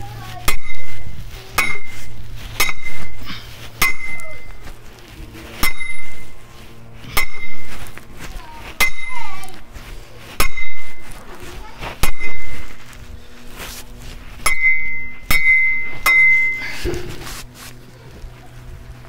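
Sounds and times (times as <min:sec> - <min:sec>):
steel tool striking ground: 0:00.0 - 0:17.6.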